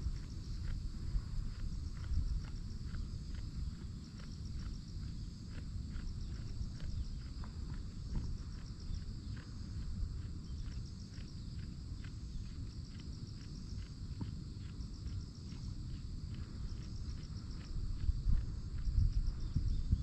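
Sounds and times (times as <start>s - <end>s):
goats chewing: 0.0s - 19.5s
insects trilling: 0.0s - 20.0s
low wind rumble: 0.0s - 20.0s.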